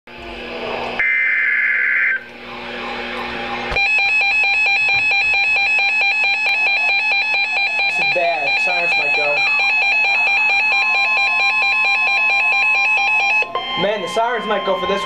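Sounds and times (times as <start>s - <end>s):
digital data tones screech: 1.0s - 15.0s
pulsing electronic attention tone: 1.0s - 15.0s.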